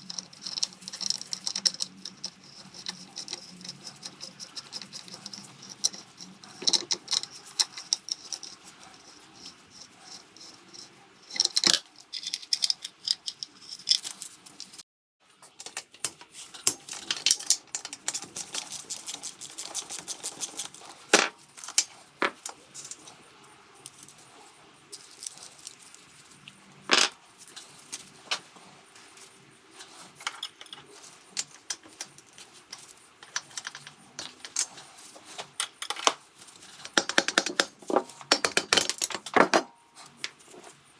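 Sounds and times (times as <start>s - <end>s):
metal tools and parts clinking: 0.0s - 14.8s, 15.6s - 23.1s, 29.8s - 40.8s.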